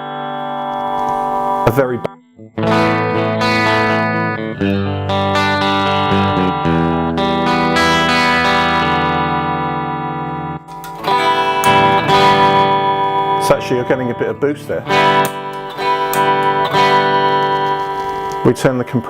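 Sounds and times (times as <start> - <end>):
clean electric guitar: 0.0 - 19.0.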